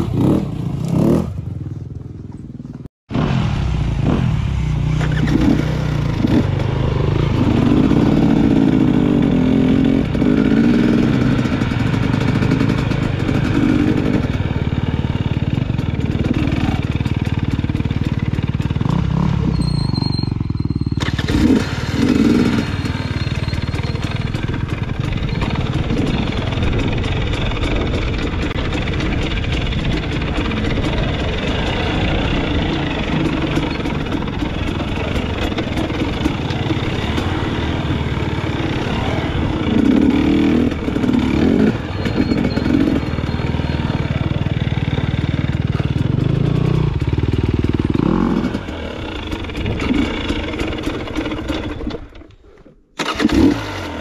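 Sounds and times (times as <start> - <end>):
dirt bike engine revving: 0.0 - 1.7, 3.1 - 52.2, 53.0 - 54.0.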